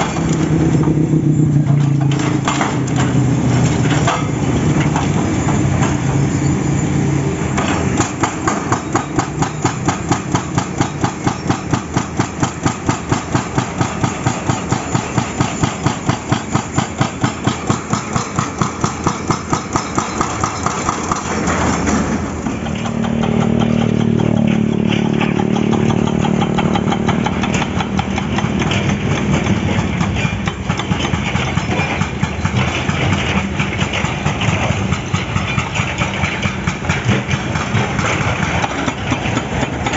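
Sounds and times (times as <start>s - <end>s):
hydraulic breaker hammer pounding: 0.0s - 6.4s, 7.1s - 39.9s
diesel engine running: 0.0s - 39.9s.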